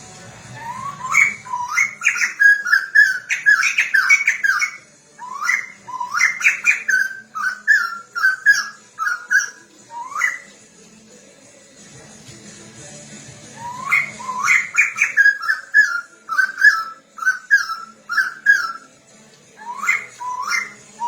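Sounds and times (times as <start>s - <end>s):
bird whistling song: 0.4s - 10.6s, 13.5s - 21.0s.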